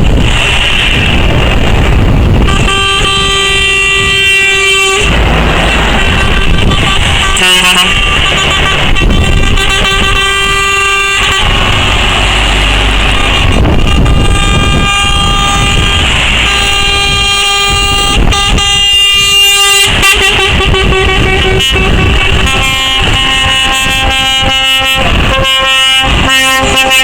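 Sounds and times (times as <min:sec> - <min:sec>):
diesel engines rumbling: 0:00.0 - 0:27.0
lorry air horns blasting: 0:00.0 - 0:27.0.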